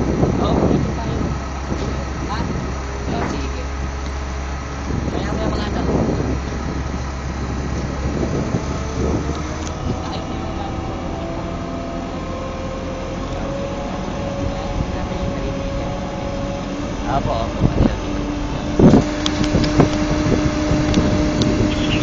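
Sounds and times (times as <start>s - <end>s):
crane engine running: 0.0s - 22.0s.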